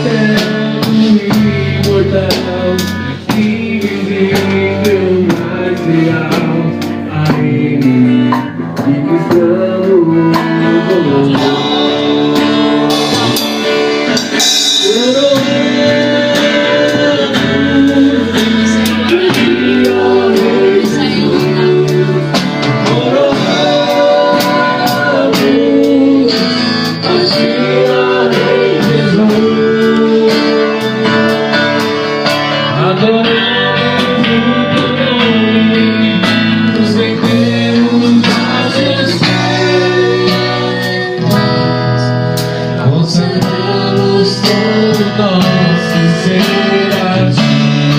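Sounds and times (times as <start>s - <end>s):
guitar: 0.0s - 47.9s
voices singing: 0.0s - 47.9s.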